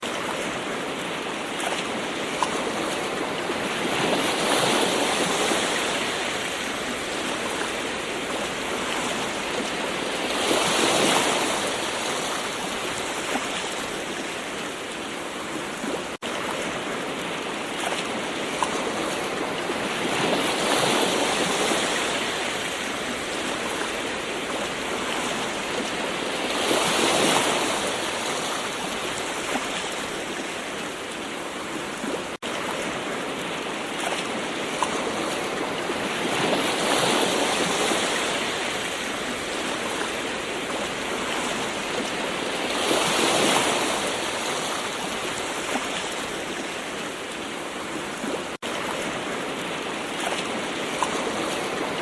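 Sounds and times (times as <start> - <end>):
gentle ocean waves: 0.0 - 52.0.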